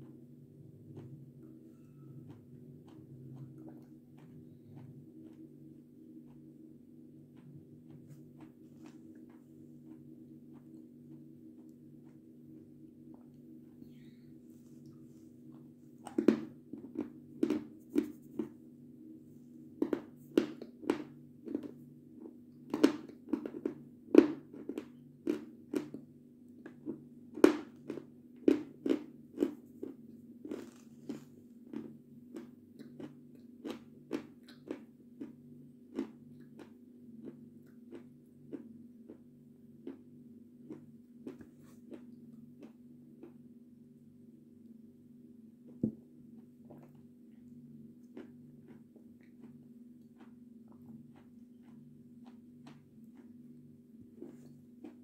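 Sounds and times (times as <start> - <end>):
crunching and chewing snack: 0.0 - 13.8, 14.8 - 18.6, 19.7 - 43.6, 46.6 - 55.0.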